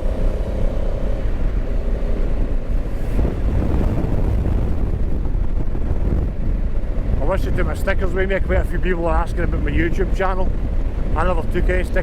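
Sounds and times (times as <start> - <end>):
motorcycle engine running: 0.0 - 12.0
wind buffeting helmet microphone: 0.0 - 12.0.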